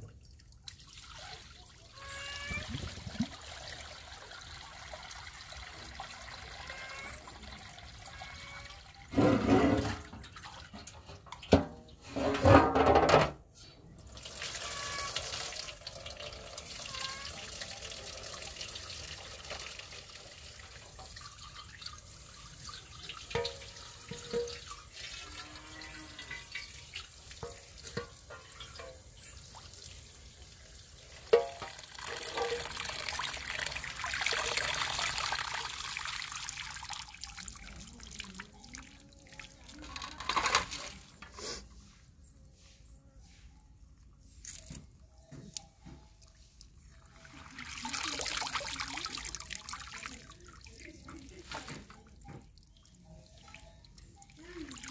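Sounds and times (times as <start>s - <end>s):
tap water pouring into basin: 0.0s - 12.0s, 14.0s - 41.3s, 45.8s - 54.9s
water splashing and dripping: 0.0s - 12.0s, 14.0s - 41.2s, 44.4s - 54.9s.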